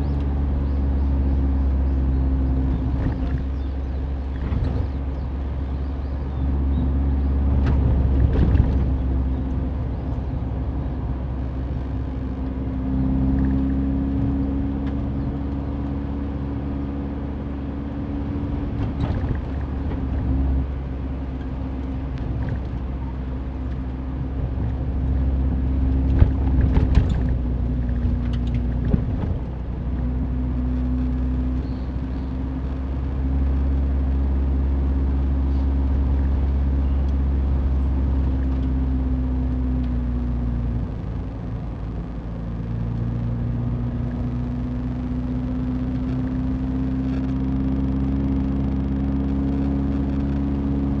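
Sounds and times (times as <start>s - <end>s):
car engine drone: 0.0s - 51.0s
road rumble: 0.0s - 51.0s.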